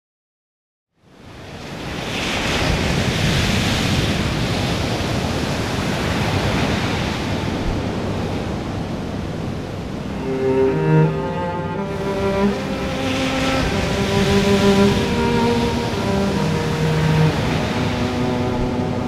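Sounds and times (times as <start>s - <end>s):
wind: 0.9s - 19.0s
heavy surf breaking on pebbles: 1.5s - 10.3s, 11.9s - 19.0s.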